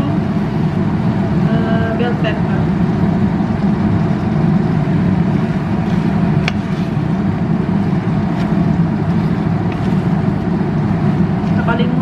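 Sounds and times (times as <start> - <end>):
cooker hood fan drone: 0.0 - 12.0.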